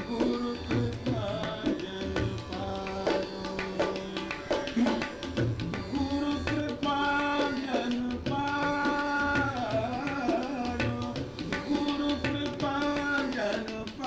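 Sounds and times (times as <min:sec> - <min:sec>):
man singing long held notes: 0:00.0 - 0:14.0.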